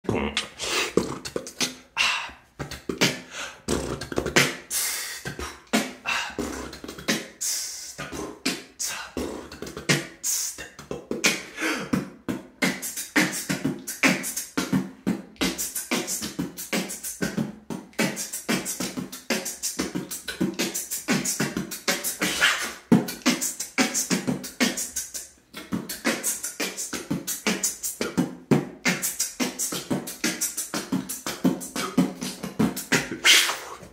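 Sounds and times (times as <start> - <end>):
man beatboxing: 0.0 - 33.9.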